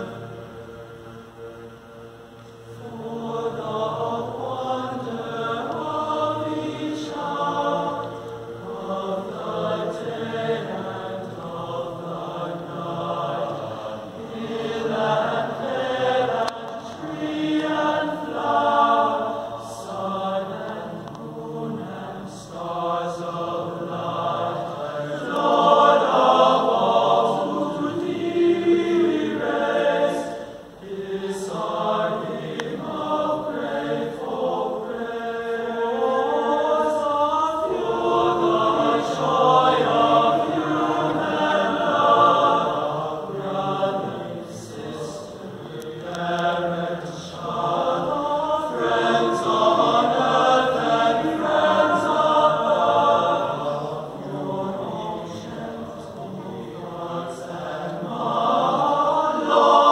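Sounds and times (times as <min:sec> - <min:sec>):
boys' chorus singing: 0:00.0 - 0:01.8, 0:02.6 - 0:59.9.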